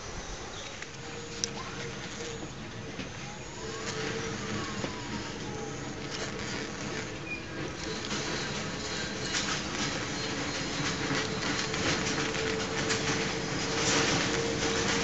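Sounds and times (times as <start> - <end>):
distant electric train rumbling: 0.0 - 15.0.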